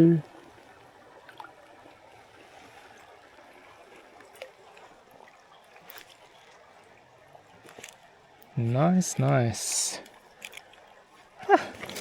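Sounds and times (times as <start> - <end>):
faint creek running water: 0.0 - 12.0.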